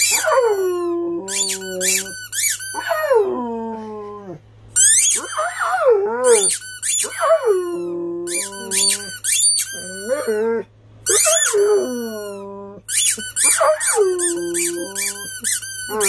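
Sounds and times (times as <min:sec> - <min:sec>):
squeaky toy squeaks: 0:00.0 - 0:00.6, 0:01.3 - 0:03.2, 0:04.7 - 0:16.0
dog howling: 0:00.0 - 0:04.4, 0:05.2 - 0:09.2, 0:09.8 - 0:12.8, 0:13.4 - 0:16.0.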